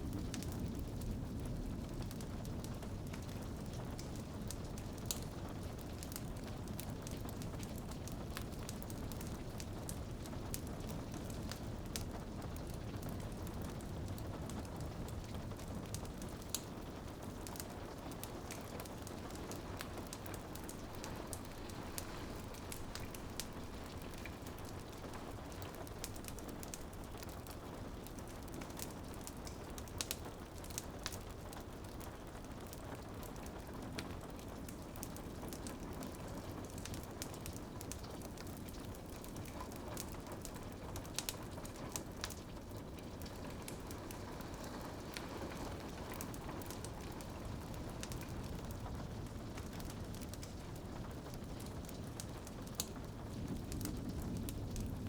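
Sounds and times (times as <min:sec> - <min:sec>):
rain pattering on a window: 0:00.0 - 0:55.0
wood fire crackling: 0:00.0 - 0:55.0.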